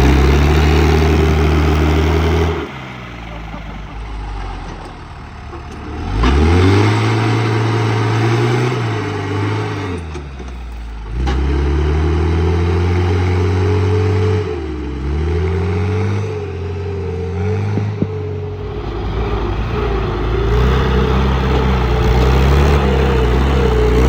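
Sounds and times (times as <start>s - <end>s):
tractor engine revving: 0.0s - 24.0s.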